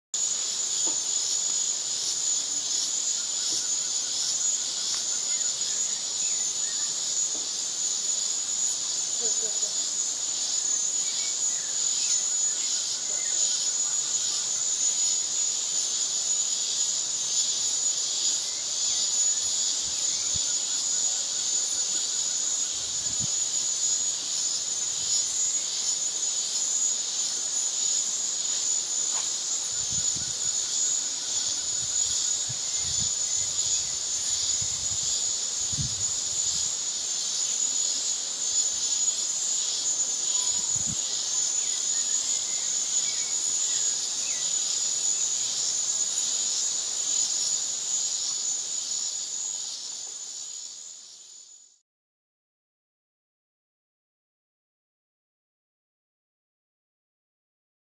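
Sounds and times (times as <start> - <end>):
high-pitched insect chorus: 0.2 - 51.8.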